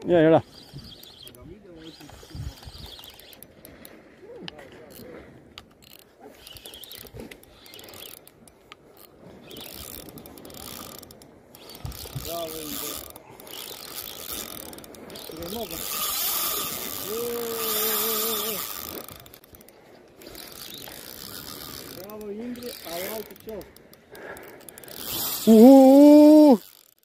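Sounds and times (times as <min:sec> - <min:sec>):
fishing reel whirring and clicking: 0:00.0 - 0:04.1, 0:04.7 - 0:27.0.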